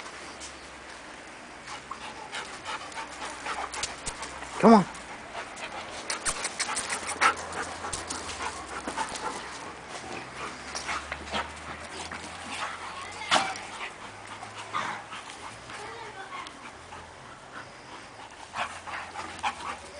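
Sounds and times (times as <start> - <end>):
dogs panting: 1.6 - 19.9.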